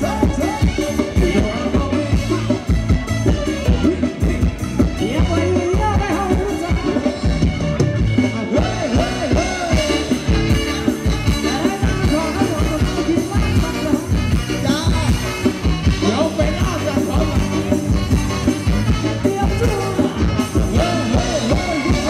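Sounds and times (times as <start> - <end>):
person singing: 0.0 - 7.3, 8.2 - 22.0
live band playing dance music: 0.0 - 22.0.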